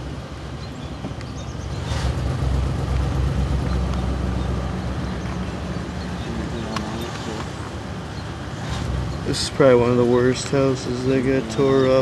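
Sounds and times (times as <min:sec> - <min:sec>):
road noise: 0:00.0 - 0:12.0
car engine pulling away: 0:00.1 - 0:12.0.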